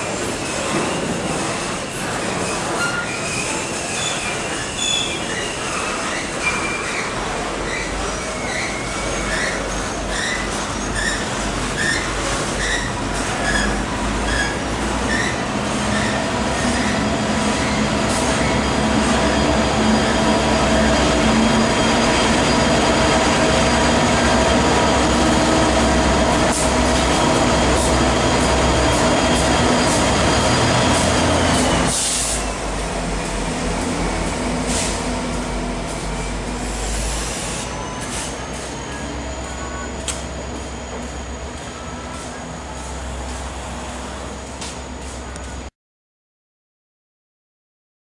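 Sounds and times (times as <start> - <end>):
diesel locomotive passing: 0.0 - 45.7
steel wheels rumbling on rail: 0.0 - 45.7
train wheel squeal: 0.0 - 45.7.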